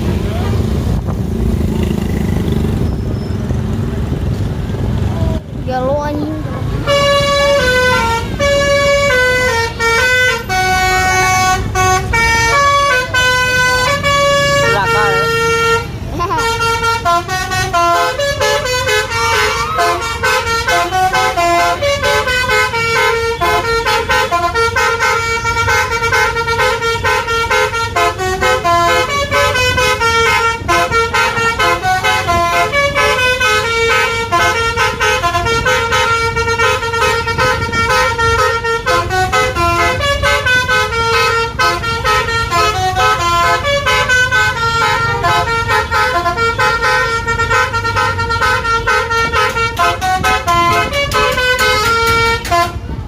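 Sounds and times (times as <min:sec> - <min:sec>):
engine and road rumble: 0:00.0 - 0:53.0
multi-tone bus horn playing tune: 0:06.1 - 0:53.0.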